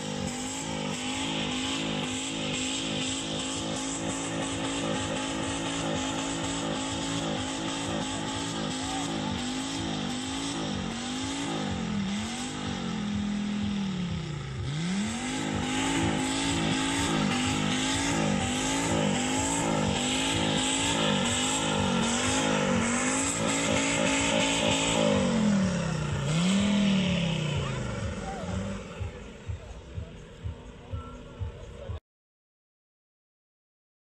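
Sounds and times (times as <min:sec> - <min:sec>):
diesel car engine revving: 0:00.0 - 0:32.0.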